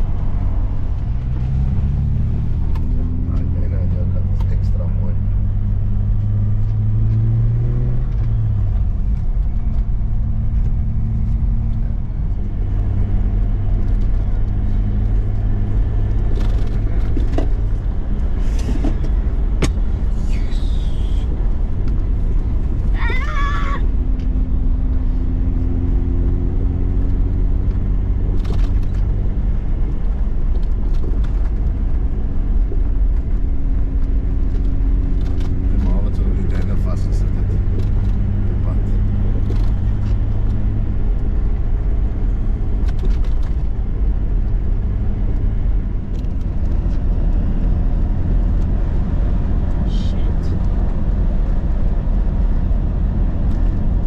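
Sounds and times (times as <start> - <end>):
car engine and tyres droning: 0.0 - 54.0.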